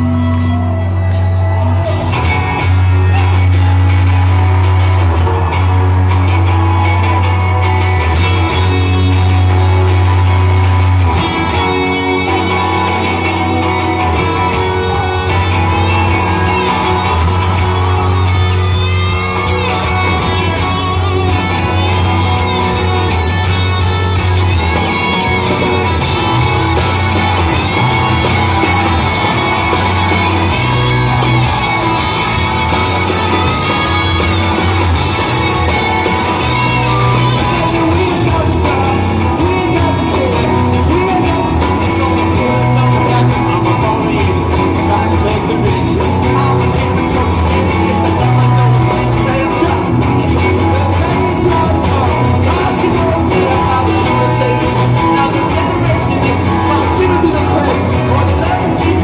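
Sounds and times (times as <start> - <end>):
electric guitar: 0.0 - 59.0
heavy bass line: 0.0 - 59.0
person singing: 0.0 - 59.0.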